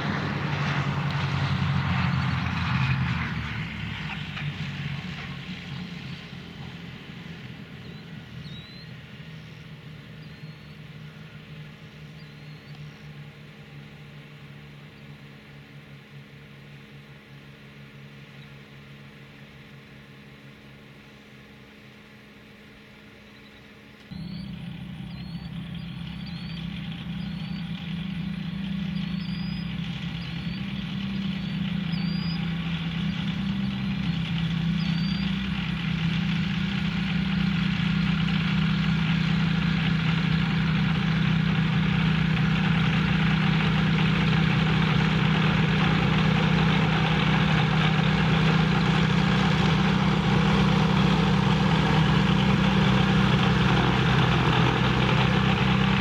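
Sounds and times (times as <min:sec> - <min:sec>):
propeller plane engines droning: 0:00.0 - 0:56.0.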